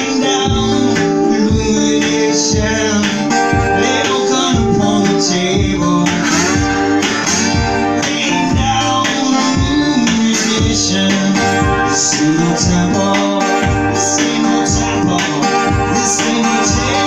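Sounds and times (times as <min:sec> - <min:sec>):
acoustic guitar picking: 0:00.0 - 0:17.0.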